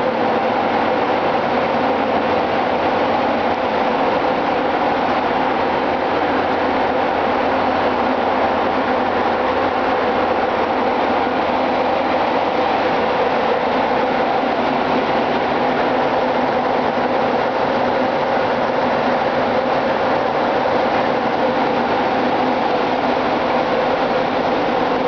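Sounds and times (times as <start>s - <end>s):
engine room machinery din: 0.0s - 25.0s.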